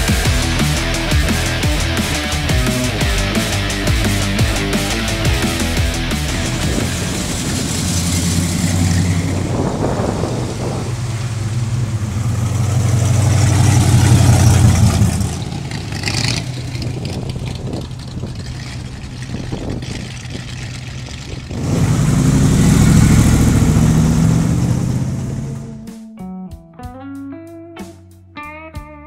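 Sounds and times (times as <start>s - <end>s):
cars driving past rumbling: 0.0s - 25.8s.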